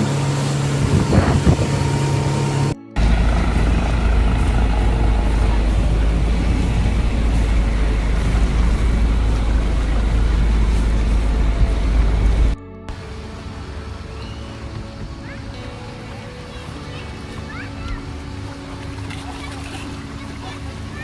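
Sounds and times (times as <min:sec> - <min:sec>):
rushing wind: 0:00.0 - 0:17.3
motorboat engine rumble: 0:00.0 - 0:21.0
water noise: 0:00.0 - 0:21.0.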